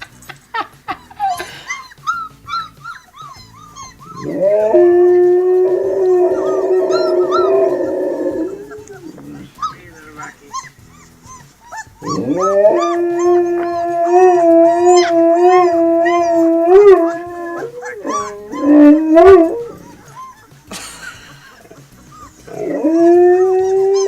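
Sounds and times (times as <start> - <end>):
dog howling: 1.2 - 20.6, 21.6 - 24.0
high squeaks and yips: 1.2 - 20.7, 22.1 - 24.0.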